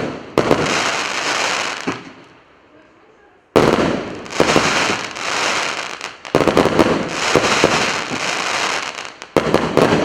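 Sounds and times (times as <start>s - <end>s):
fireworks battery crackling and popping: 0.0s - 2.4s, 3.6s - 10.0s.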